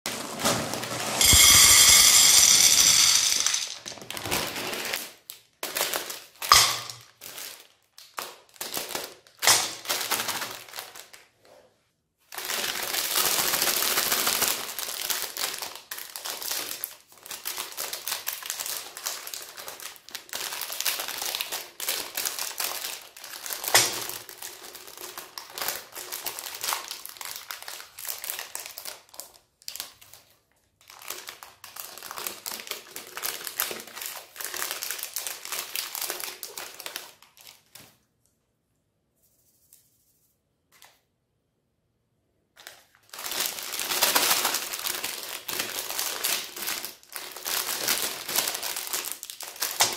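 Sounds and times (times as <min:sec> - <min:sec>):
plastic wrappers crinkling: 0:00.1 - 0:11.6, 0:12.2 - 0:38.2, 0:42.6 - 0:49.9.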